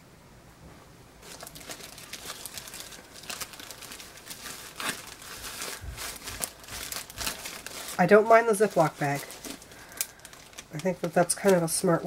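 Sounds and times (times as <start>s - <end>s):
plastic bag crinkling: 1.2s - 12.0s.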